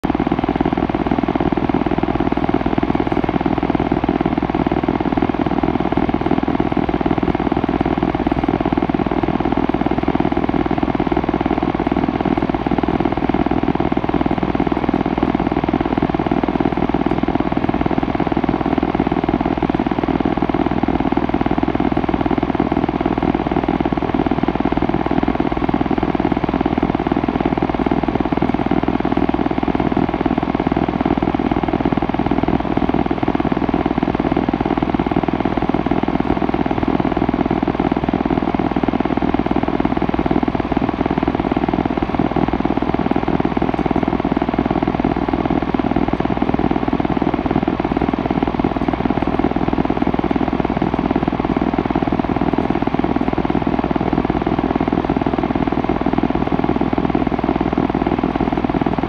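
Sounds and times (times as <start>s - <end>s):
compressor droning: 0.0s - 59.0s.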